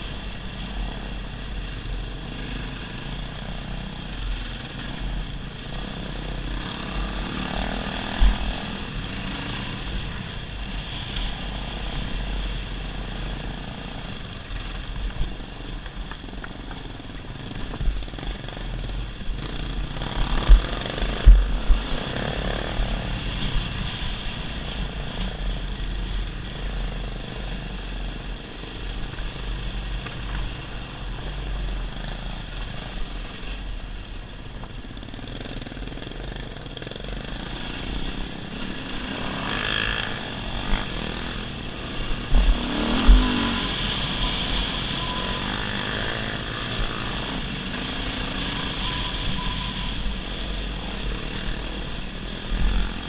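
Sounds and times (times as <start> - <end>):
dirt bike engine running: 0.0 - 24.2, 34.6 - 53.0.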